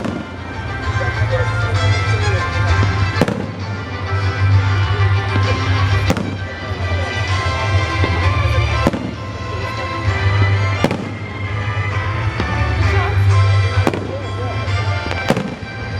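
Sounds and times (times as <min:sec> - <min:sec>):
fireworks bangs: 0:00.0 - 0:00.9, 0:02.5 - 0:15.9
loud music: 0:00.0 - 0:15.9.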